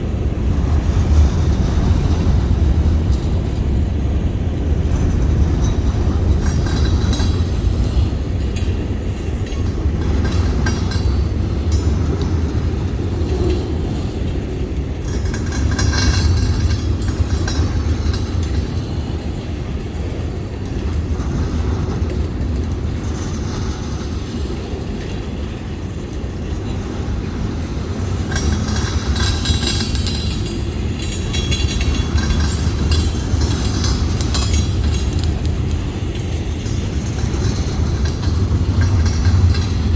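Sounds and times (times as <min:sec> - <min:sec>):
freight train rumble: 0:00.0 - 0:39.9
wheels clattering on rails: 0:00.0 - 0:39.9.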